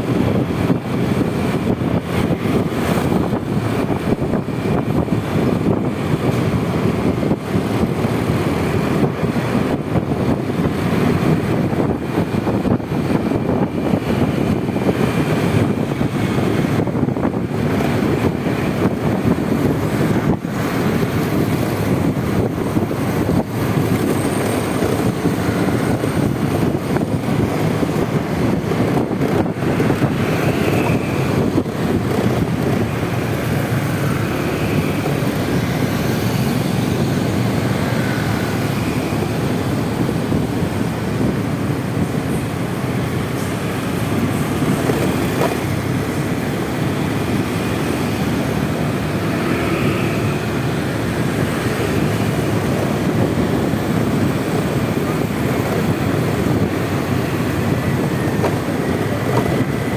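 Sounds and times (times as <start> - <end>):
road noise: 0.0 - 59.9
scooter engine running: 0.0 - 59.9
wind on microphone: 0.0 - 59.9.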